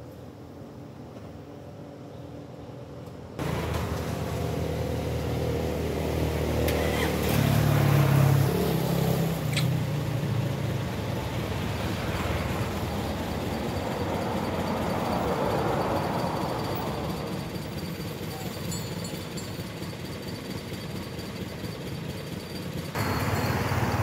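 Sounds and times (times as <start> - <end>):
passing road vehicle engines: 3.4 - 24.0.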